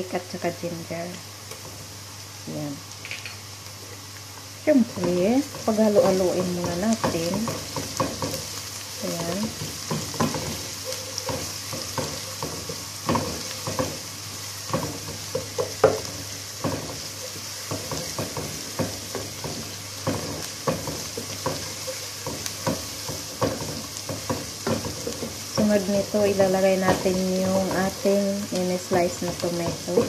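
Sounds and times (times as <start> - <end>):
food sizzling in hot oil: 0.0 - 30.0
spatula scraping and tapping pot: 5.0 - 30.0.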